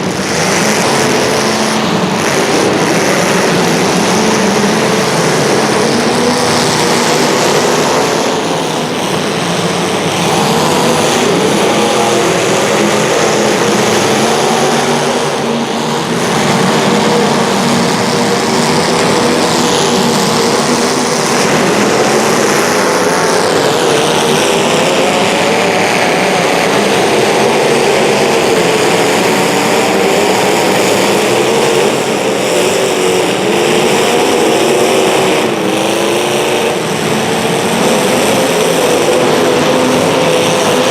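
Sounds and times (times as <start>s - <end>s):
high-revving racing engines: 0.0s - 40.9s.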